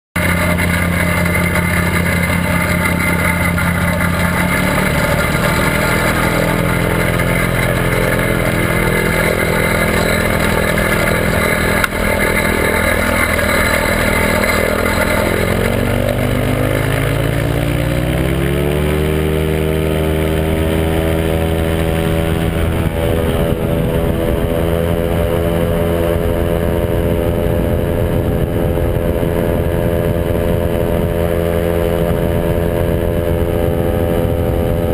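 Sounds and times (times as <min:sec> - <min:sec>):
ultralight engine and propeller: 0:00.0 - 0:34.9
wind rushing past microphone: 0:01.0 - 0:34.9.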